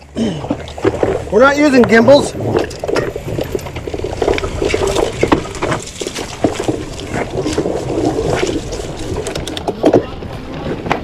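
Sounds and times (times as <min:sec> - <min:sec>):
mountain bike clattering over rocks: 0:00.6 - 0:11.0.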